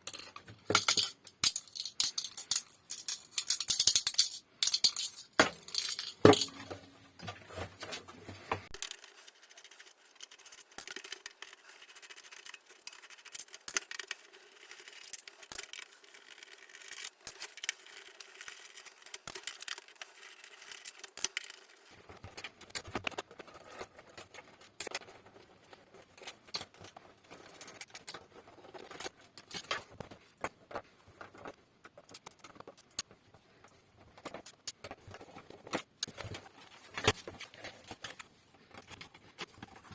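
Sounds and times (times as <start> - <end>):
small objects clicking and scraping: 0.0 - 7.6, 8.6 - 39.9.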